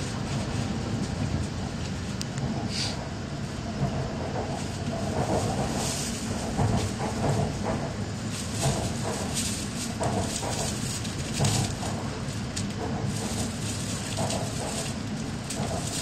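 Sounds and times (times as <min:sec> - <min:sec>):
train cabin rumble: 0:00.0 - 0:16.0.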